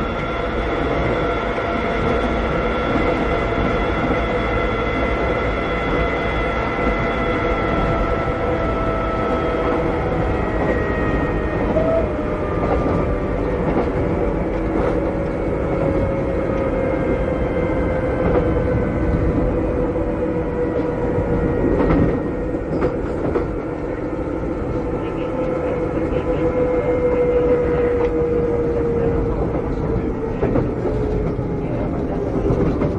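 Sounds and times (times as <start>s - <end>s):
rail joint clacks: 0.0s - 19.6s, 20.5s - 32.9s
train wheel rumble: 0.0s - 32.9s.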